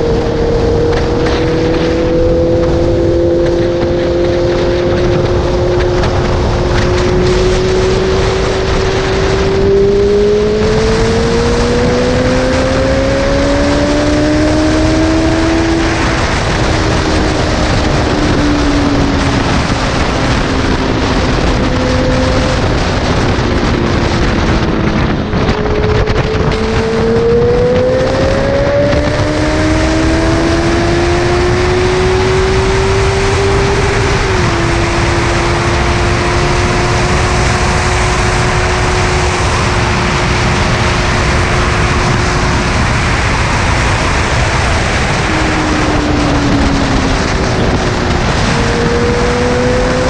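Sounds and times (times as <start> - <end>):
wind rush over microphone: 0.0 - 50.0.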